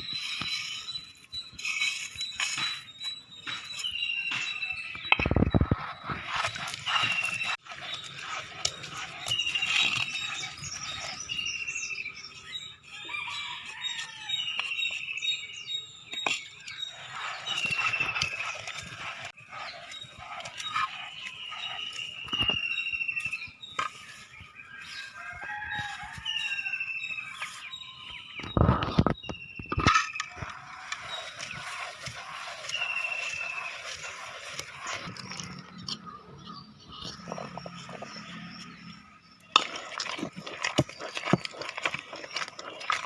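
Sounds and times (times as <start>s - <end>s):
birds calling: 0.0s - 43.0s.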